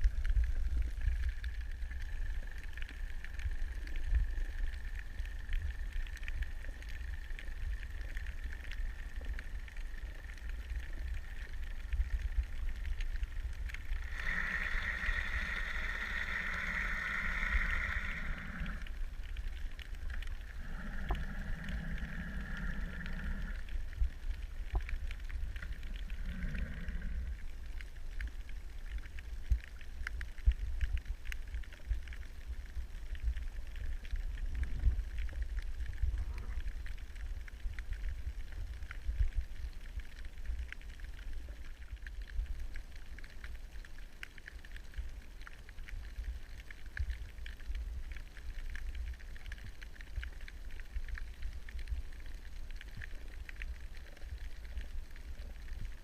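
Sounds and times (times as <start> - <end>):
low underwater rumble: 0.0 - 56.0.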